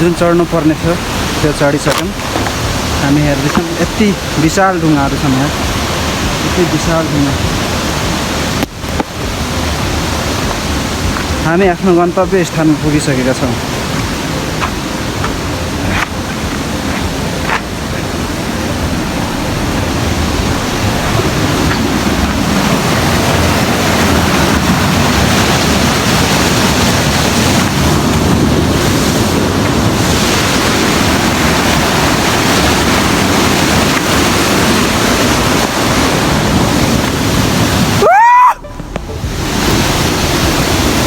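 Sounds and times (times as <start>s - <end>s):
waterfall rushing: 0.0s - 41.0s
wind buffeting microphone: 0.0s - 41.0s.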